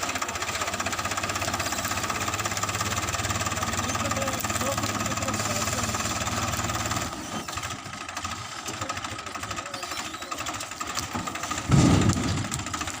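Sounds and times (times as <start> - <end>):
combine harvester engine pulsing: 0.0 - 13.0.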